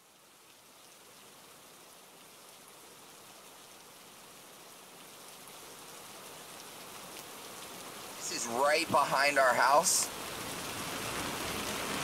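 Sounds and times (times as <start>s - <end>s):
rain pattering on a car: 0.0s - 12.0s.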